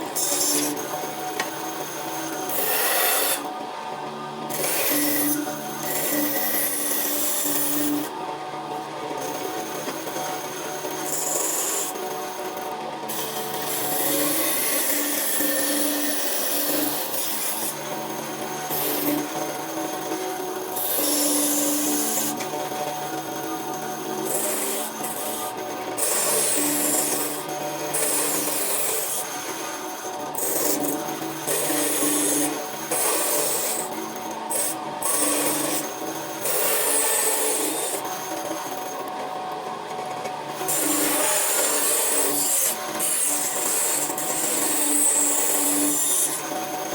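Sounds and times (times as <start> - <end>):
machine tool rasping wood: 0.0 - 3.5, 4.5 - 8.1, 9.2 - 39.2, 40.6 - 46.9
steady motor hum: 0.0 - 46.9.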